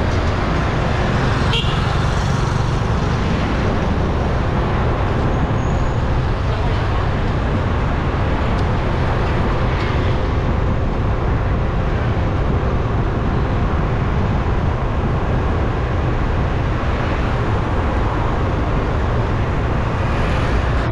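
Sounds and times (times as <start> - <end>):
street traffic rumble: 0.0 - 20.9.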